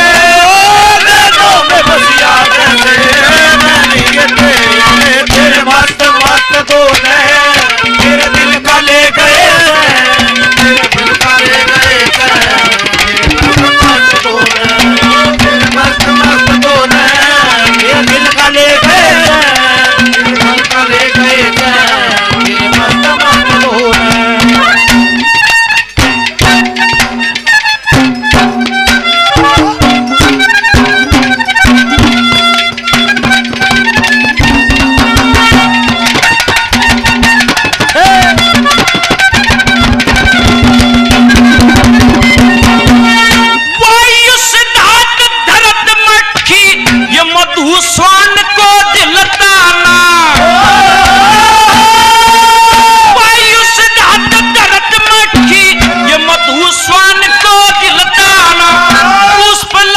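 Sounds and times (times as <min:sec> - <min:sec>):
hand drum beats: 0:00.0 - 0:59.9
winding folk melody: 0:00.0 - 0:59.9.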